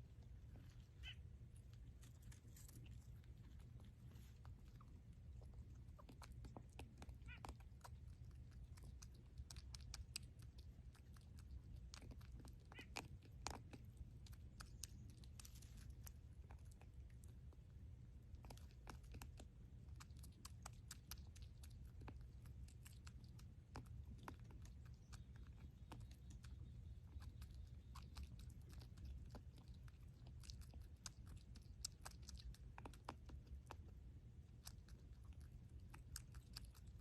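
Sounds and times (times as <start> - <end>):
animal chewing: 0.0 - 37.0
low steady hum: 0.0 - 37.0.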